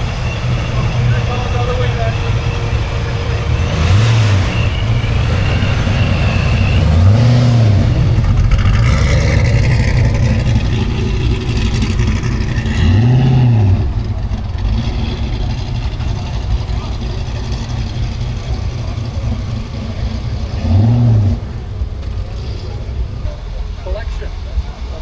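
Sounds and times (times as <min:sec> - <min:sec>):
car engine idling and revving: 0:00.0 - 0:25.0
supercharger whine: 0:00.0 - 0:25.0.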